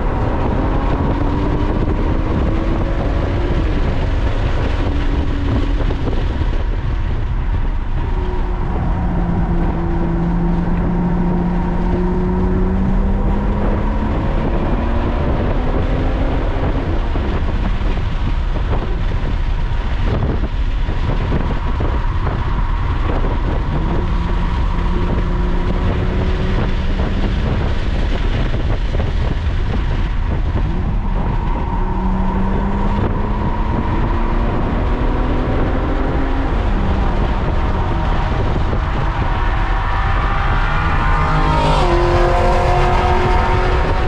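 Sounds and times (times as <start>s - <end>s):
car engine accelerating: 0.0s - 44.0s
road and wind rumble: 0.0s - 44.0s.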